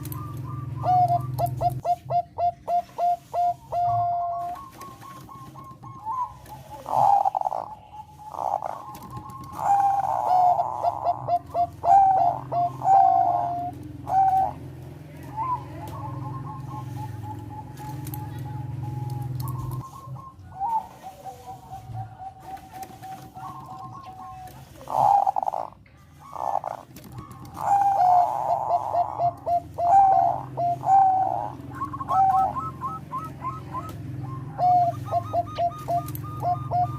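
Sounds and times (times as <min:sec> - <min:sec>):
dove cooing: 0:00.0 - 0:36.9
steady low hum: 0:00.0 - 0:36.9.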